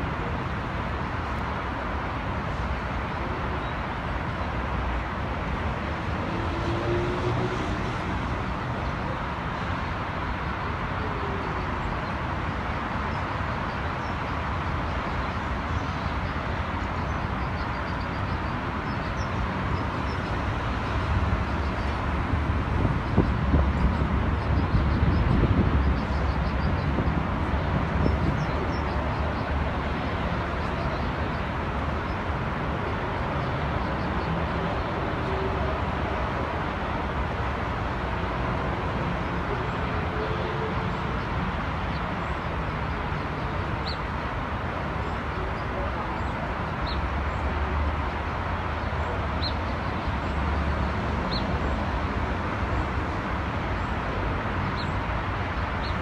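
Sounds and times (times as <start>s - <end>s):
low rumble of distant traffic: 0.0s - 56.0s.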